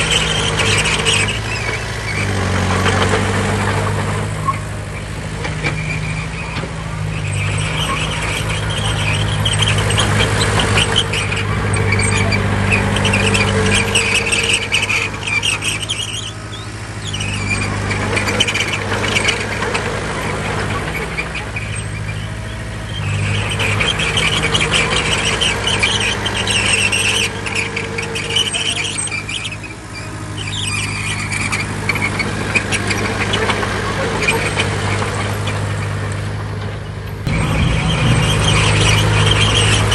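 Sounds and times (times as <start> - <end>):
bulldozer diesel engine running: 0.0 - 39.9
crawler tracks squealing: 0.0 - 39.9.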